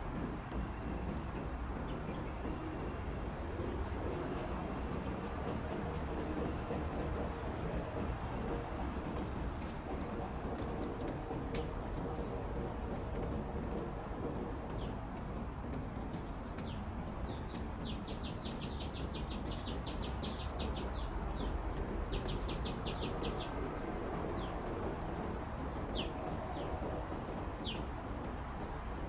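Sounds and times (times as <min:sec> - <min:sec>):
songbirds chirping: 0:00.2 - 0:29.0.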